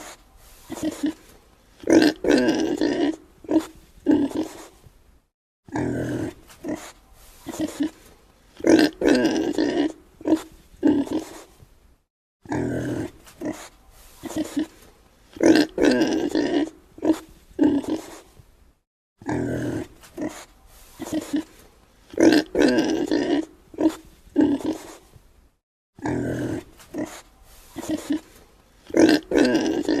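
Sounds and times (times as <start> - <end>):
pig grunting: 0.7 - 4.7, 5.7 - 8.0, 8.6 - 11.5, 12.4 - 18.2, 19.2 - 25.1, 26.0 - 30.0.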